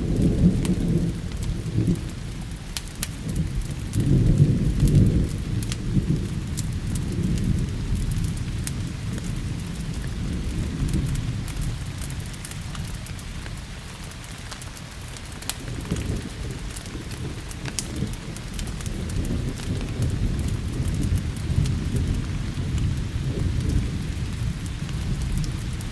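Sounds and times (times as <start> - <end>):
rolling thunder rumble: 0.0 - 13.9, 15.1 - 25.9
fire crackling and popping: 0.0 - 25.9
steady rain: 0.0 - 25.9.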